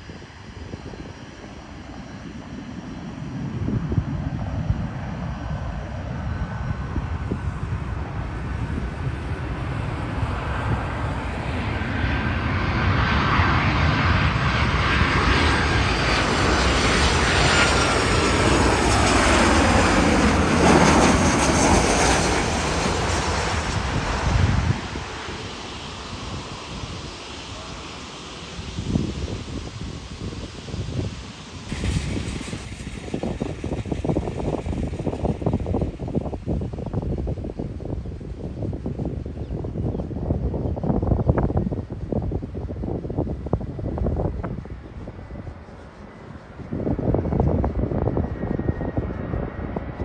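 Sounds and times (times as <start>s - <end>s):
high jet engine whine: 0.0s - 50.0s
jet engines rushing: 0.0s - 50.0s.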